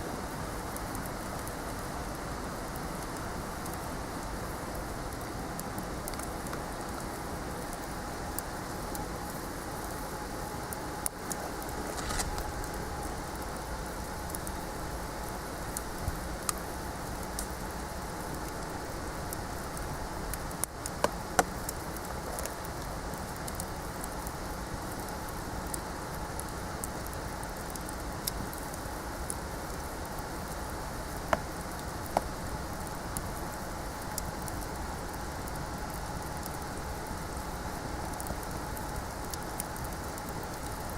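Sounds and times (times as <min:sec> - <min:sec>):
fire crackles: 0:00.0 - 0:40.9
wood fire hissing: 0:00.0 - 0:40.9.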